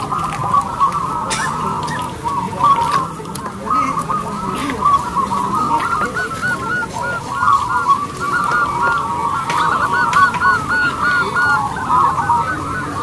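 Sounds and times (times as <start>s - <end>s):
doves cooing: 0.0s - 13.0s.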